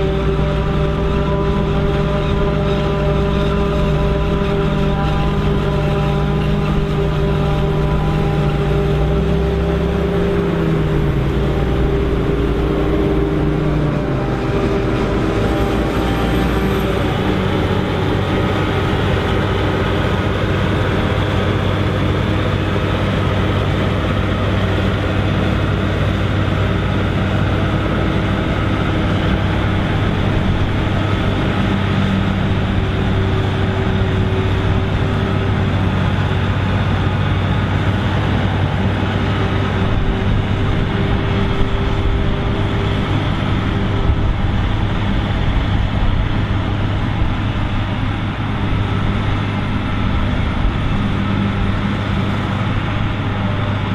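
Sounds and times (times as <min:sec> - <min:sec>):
harvester engine drone: 0:00.0 - 0:53.9.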